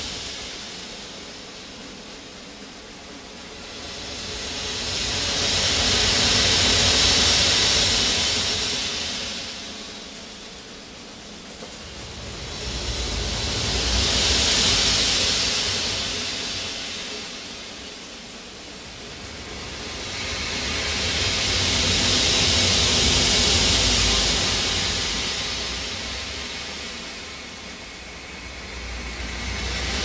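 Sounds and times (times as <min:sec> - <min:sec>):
hissing noise: 0:00.0 - 0:30.0
steady low rumble: 0:00.0 - 0:30.0.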